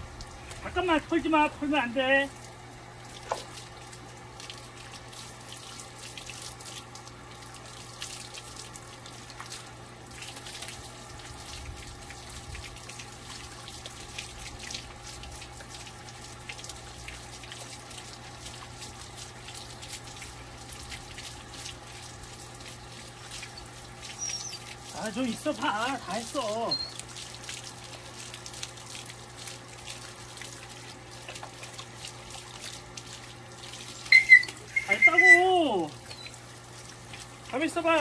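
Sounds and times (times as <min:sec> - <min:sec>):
water running and spattering: 0:00.0 - 0:38.0.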